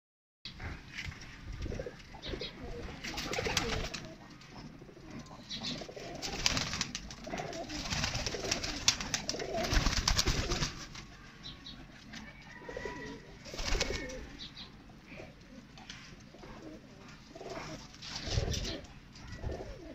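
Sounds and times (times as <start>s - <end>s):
pigeons cooing: 0.5s - 19.9s.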